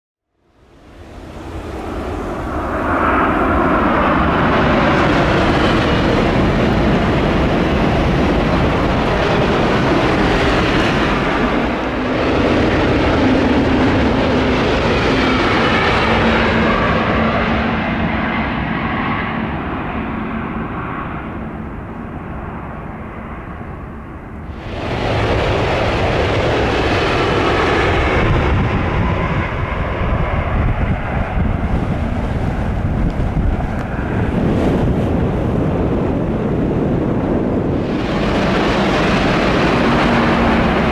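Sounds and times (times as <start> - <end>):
high-speed train rushing past: 0.5 - 40.9.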